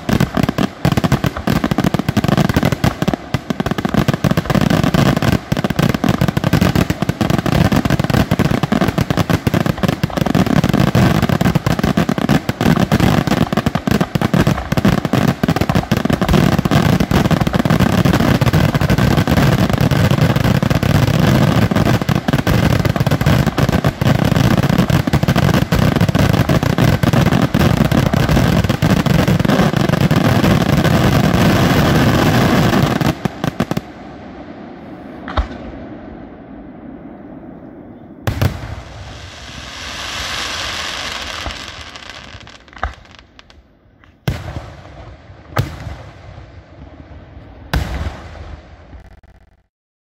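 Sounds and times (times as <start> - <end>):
fireworks bursting: 0.0 - 36.0, 38.2 - 49.6.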